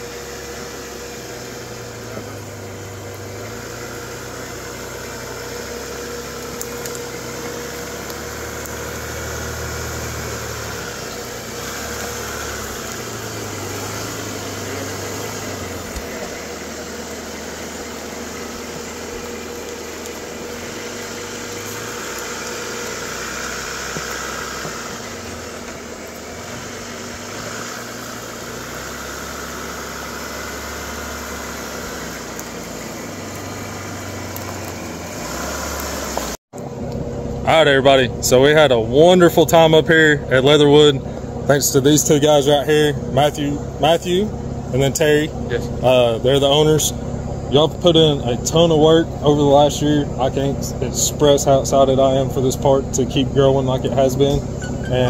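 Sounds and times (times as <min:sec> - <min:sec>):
engine running at low revs: 0:00.0 - 0:55.0.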